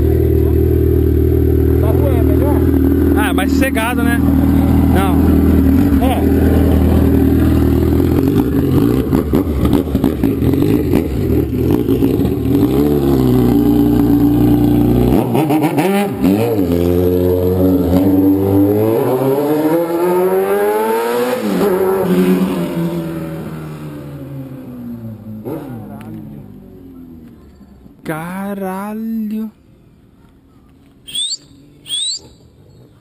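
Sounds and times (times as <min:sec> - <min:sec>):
motorcycle engine revving: 0:00.0 - 0:27.3.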